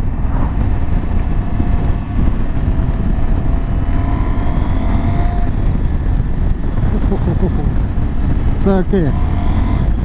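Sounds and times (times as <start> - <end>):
motorcycle engine revving: 0.0 - 10.0
wind rush on microphone: 0.0 - 10.0.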